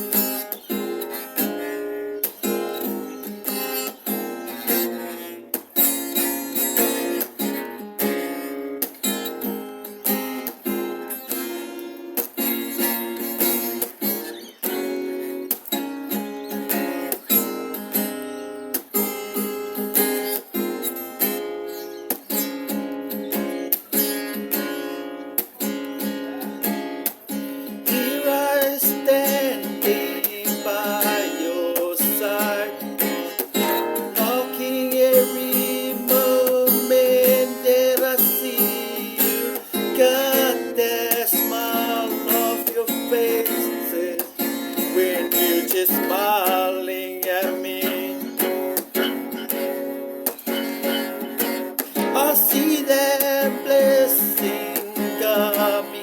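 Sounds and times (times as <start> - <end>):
acoustic guitar strumming chords: 0.0 - 56.0
bending guitar melody line: 0.0 - 56.0.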